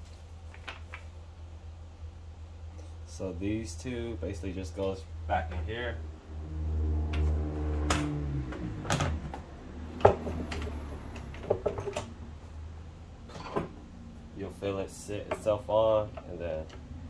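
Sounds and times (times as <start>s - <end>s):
low hum: 1.6s - 15.3s.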